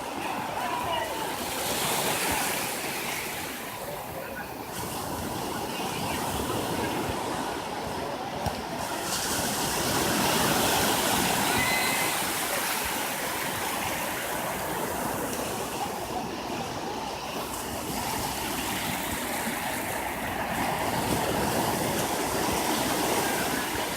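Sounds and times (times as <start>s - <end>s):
surf waves breaking on beach: 0.0s - 23.9s.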